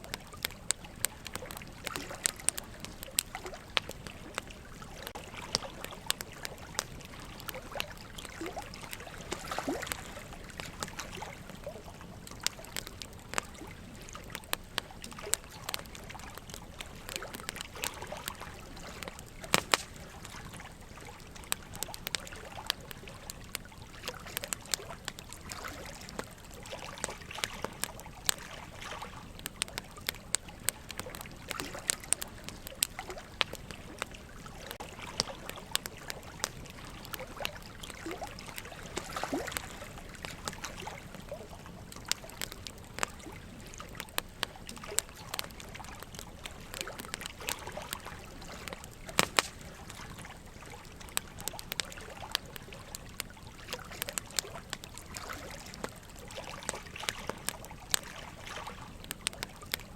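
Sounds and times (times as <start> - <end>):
burning logs crackling: 0.0 - 59.9
trickle of running water: 0.0 - 59.9.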